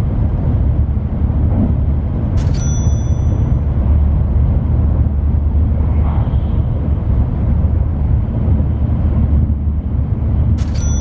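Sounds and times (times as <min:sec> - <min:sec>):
train rumbling at high speed: 0:00.0 - 0:11.0.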